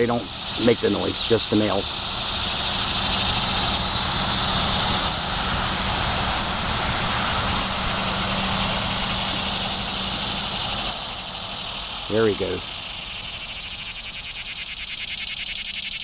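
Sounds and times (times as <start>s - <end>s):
cicada buzzing: 0.0s - 16.0s.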